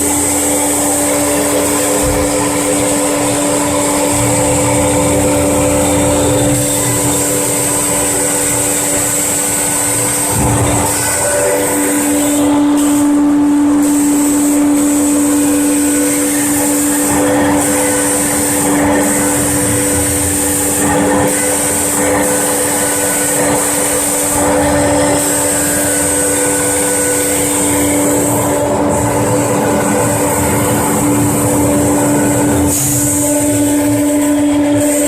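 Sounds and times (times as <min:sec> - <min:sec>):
spindle motor running: 0:00.0 - 0:35.0.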